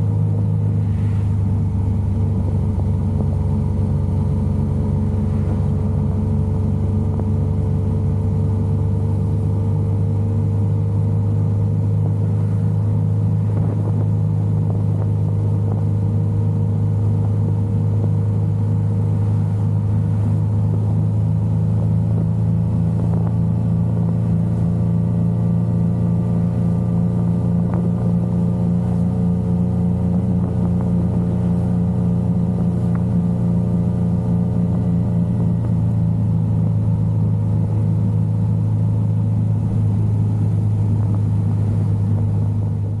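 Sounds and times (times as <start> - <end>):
motorcycle engine running steadily: 0.0 - 43.0.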